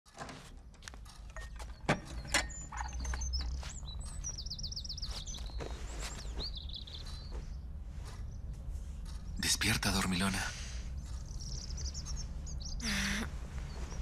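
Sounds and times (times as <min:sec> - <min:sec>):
low room hum: 0:00.2 - 0:14.0
small birds chirping and trilling: 0:01.5 - 0:14.0.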